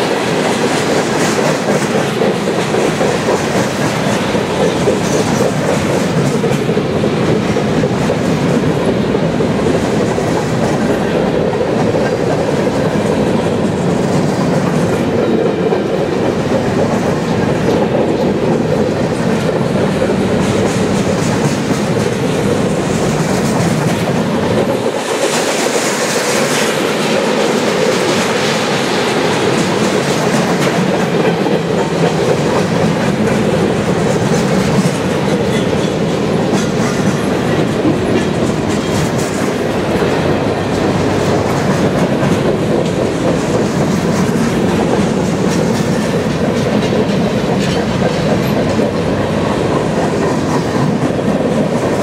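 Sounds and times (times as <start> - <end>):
steel wheels clattering on rails: 0.0 - 52.0.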